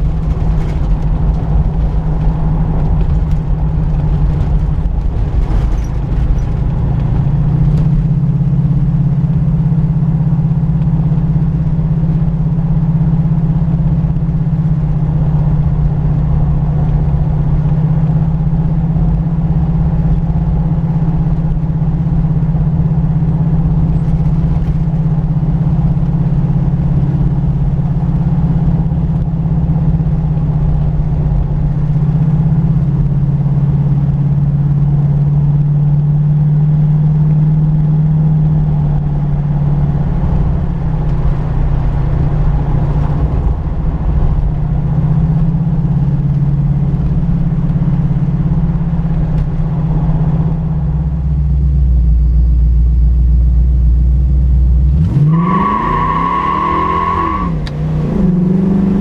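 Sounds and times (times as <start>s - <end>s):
car engine running: 0.0s - 59.0s
deep low rumble: 0.0s - 59.0s.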